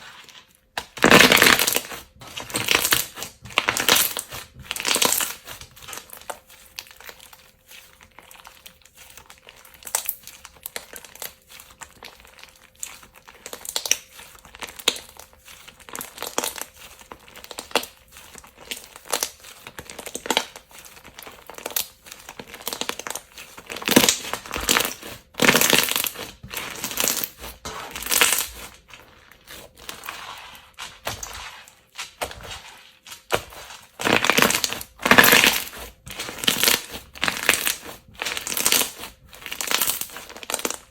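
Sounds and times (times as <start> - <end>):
slime crackling and popping: 0.7 - 40.9.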